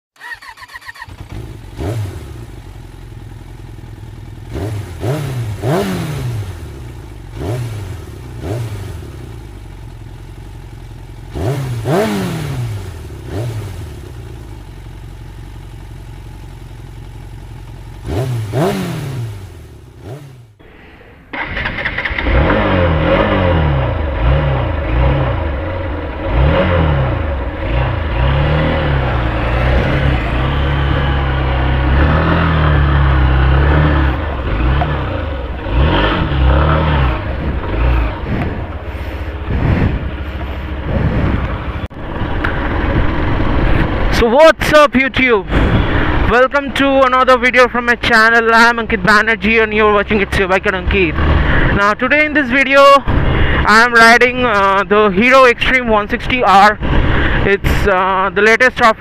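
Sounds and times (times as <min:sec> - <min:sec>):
motorcycle engine revving: 0:00.1 - 0:58.2.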